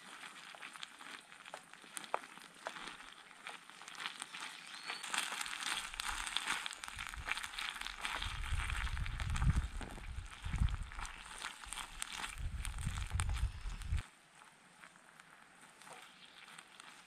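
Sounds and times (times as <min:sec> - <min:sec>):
noodles sizzling in oil: 0:00.0 - 0:14.0, 0:15.8 - 0:17.0.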